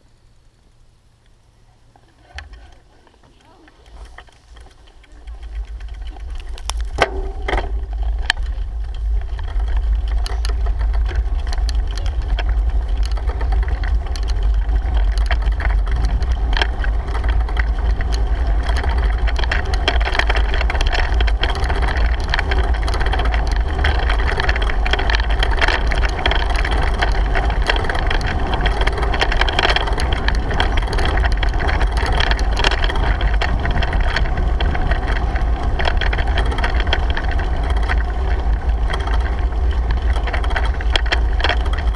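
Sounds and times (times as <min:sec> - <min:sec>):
bicycle tyre and road noise: 0:00.0 - 0:41.9
small clicks: 0:01.2 - 0:41.9
wind rumble on microphone: 0:02.2 - 0:41.9.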